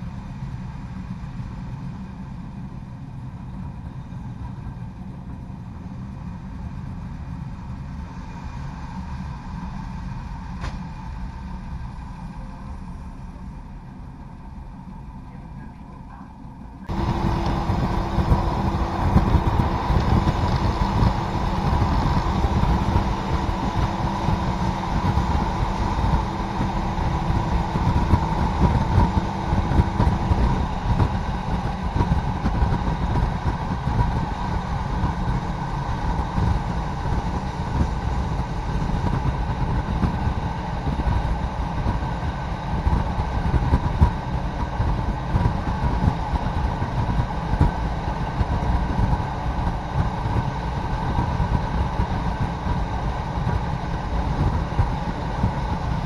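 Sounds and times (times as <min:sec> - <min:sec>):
diesel railcar rumbling on rails: 0:00.0 - 0:56.0.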